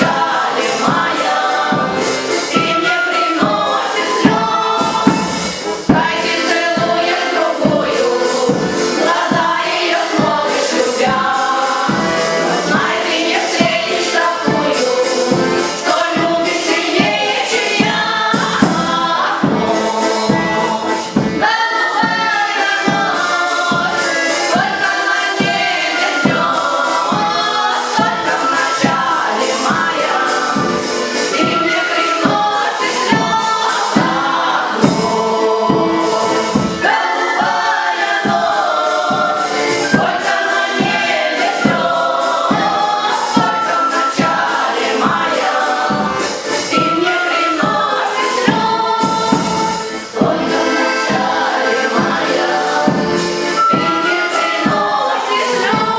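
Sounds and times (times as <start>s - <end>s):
choir singing: 0.0s - 55.9s
instrumental accompaniment with beat: 0.0s - 55.9s.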